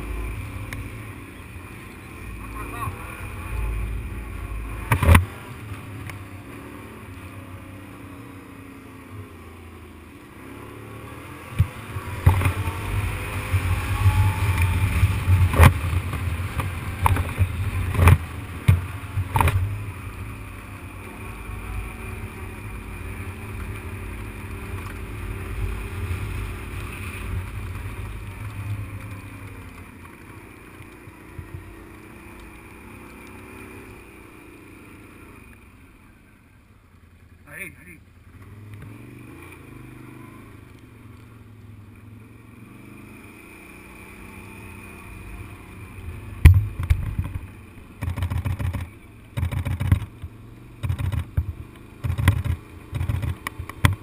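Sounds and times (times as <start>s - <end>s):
off-road vehicle engine: 0.0s - 54.0s.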